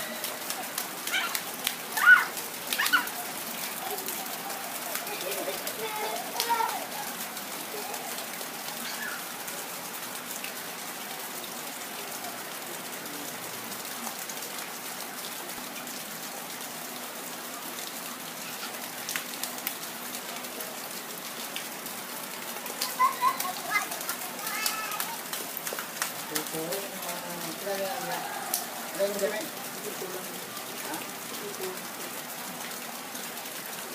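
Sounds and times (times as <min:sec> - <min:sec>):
raindrops ticking: 0:00.0 - 0:17.1, 0:17.7 - 0:33.9
steady rain: 0:00.0 - 0:33.9.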